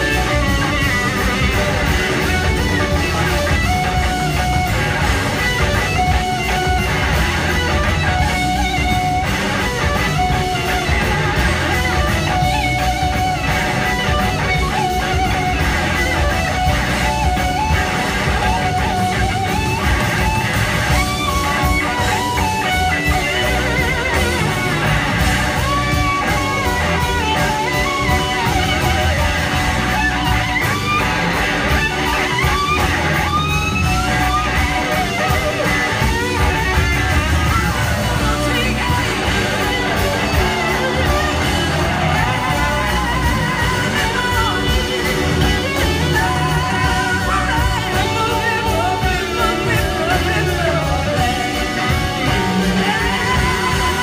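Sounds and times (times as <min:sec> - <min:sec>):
electric guitars: 0:00.0 - 0:54.0
live blues-rock band: 0:00.0 - 0:54.0.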